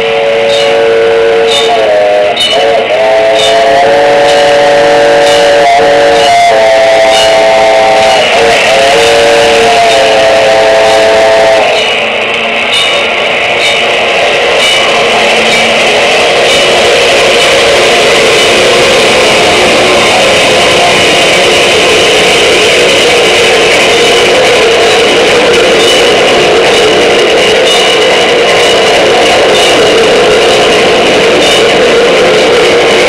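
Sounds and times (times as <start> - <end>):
steam locomotive whistle: 0.0 - 33.0.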